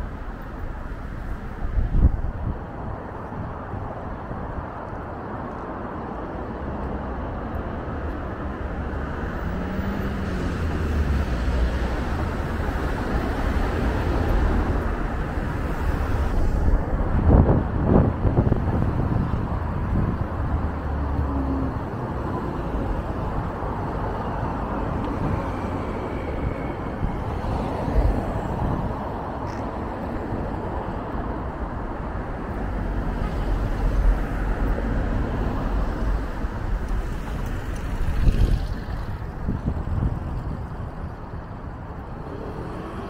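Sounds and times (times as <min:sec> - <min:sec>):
cars driving past: 0:04.5 - 0:43.0.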